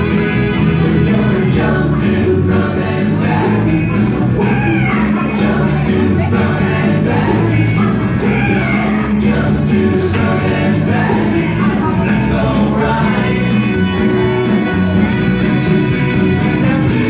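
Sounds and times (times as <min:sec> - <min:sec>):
upbeat song with singing: 0:00.0 - 0:17.0.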